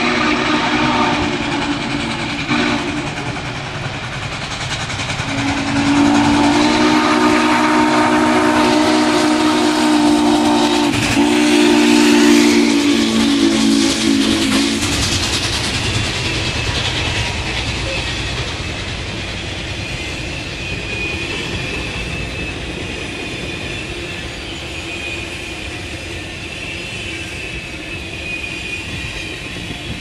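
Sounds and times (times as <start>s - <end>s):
steam locomotive chime whistle: 0.0s - 3.4s, 5.2s - 15.2s, 16.0s - 30.0s
passing train hiss and rumble: 0.0s - 30.0s.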